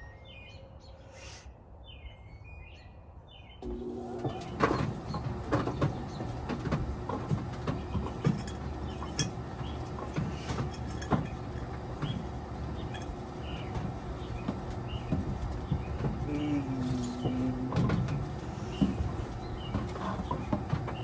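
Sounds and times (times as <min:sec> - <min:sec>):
low hum: 0:03.6 - 0:21.0.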